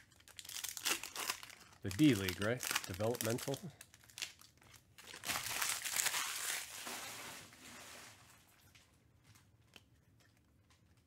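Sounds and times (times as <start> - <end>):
plastic wrapper crinkling: 0.0 - 10.5.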